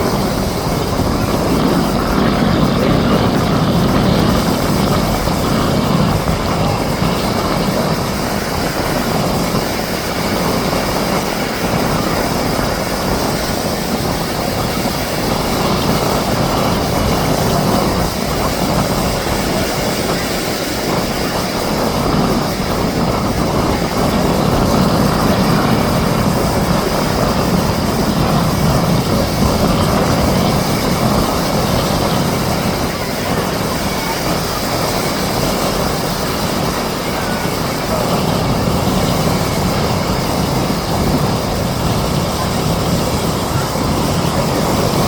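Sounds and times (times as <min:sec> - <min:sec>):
turboprop engines droning: 0:00.0 - 0:45.0.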